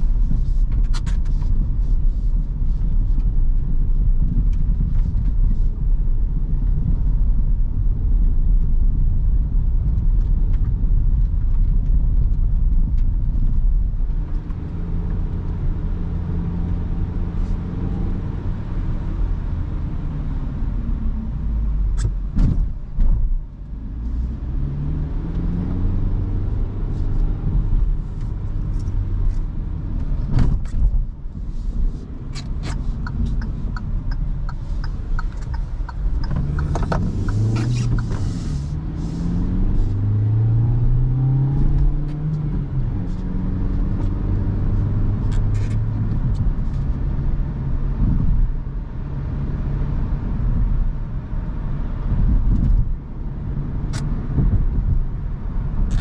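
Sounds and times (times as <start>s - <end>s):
car engine hum: 0.0s - 56.0s
tyres rumbling on bumpy road: 0.0s - 56.0s.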